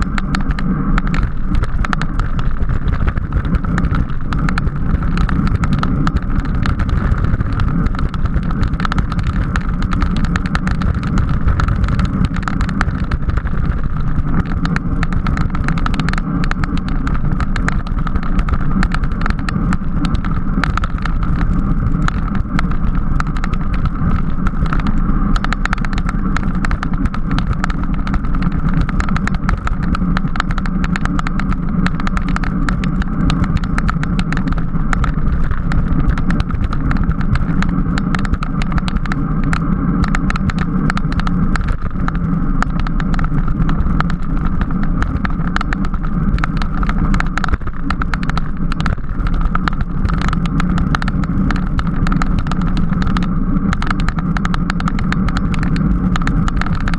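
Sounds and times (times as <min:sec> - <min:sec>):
wind and road noise: 0:00.0 - 0:56.9.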